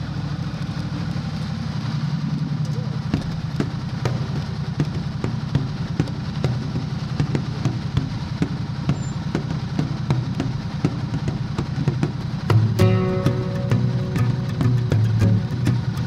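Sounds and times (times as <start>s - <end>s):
motorcycle engine at low speed: 0.0s - 16.0s.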